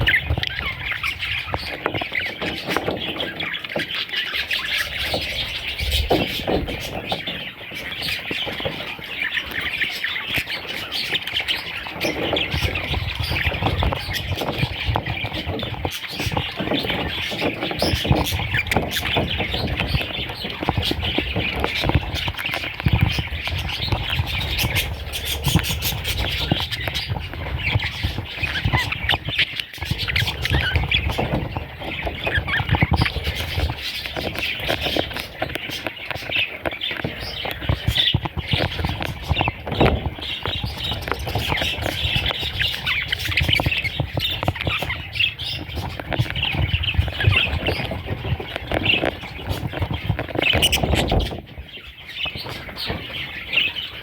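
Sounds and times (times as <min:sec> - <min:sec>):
baby budgerigars chirping: 0:00.0 - 0:54.0.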